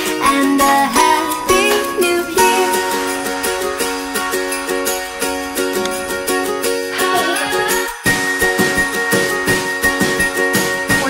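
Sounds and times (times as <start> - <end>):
plucked strings music with beat: 0.0 - 11.0.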